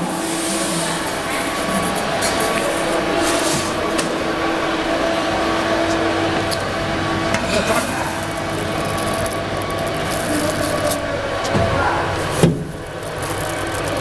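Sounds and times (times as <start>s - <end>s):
machine humming and hissing: 0.0s - 14.0s.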